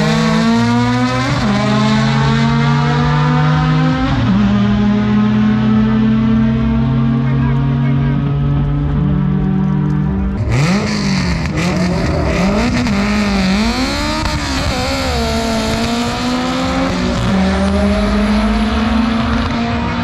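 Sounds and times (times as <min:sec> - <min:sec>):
drag car engine revving: 0:00.0 - 0:20.0.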